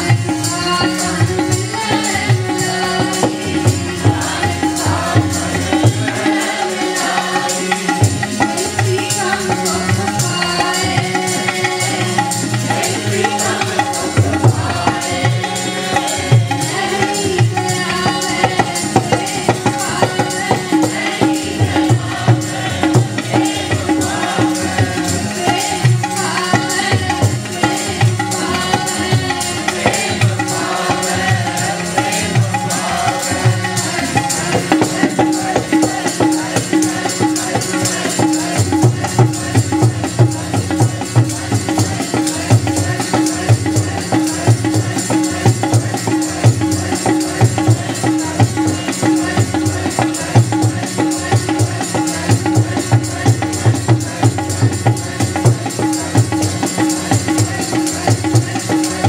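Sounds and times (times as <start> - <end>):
hand drum beat: 0.0 - 59.0
harmonium chords: 0.0 - 59.0
jingling percussion: 0.0 - 59.0.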